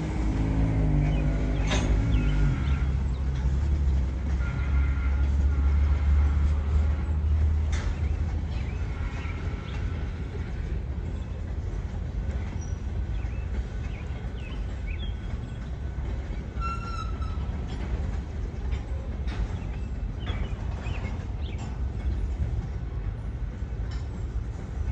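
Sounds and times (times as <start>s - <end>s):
freight train rumbling past: 0.0s - 24.9s
train wheel squeal: 0.4s - 24.9s.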